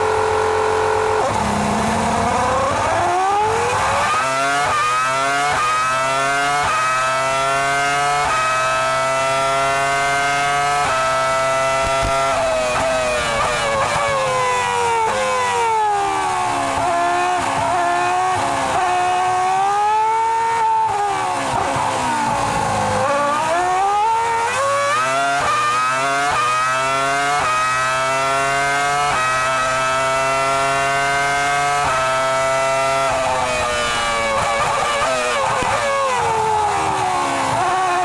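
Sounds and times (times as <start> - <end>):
racing car engine at high revs: 0.0 - 38.0.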